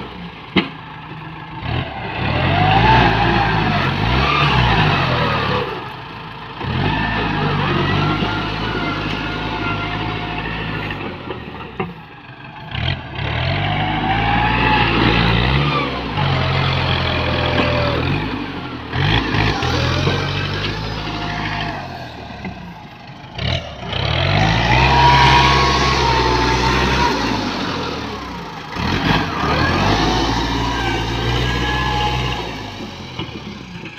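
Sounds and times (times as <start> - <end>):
tractor engine revving: 0.0 - 33.9.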